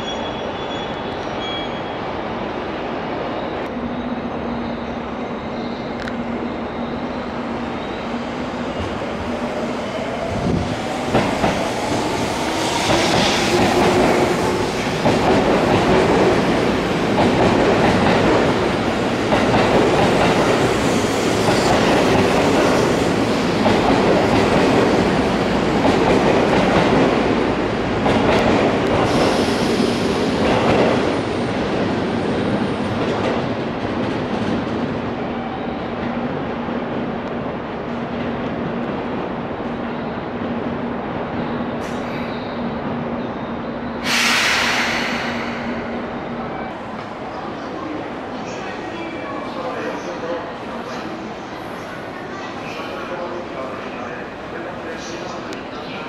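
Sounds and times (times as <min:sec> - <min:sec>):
train rail and wheel noise: 0:00.0 - 0:56.0.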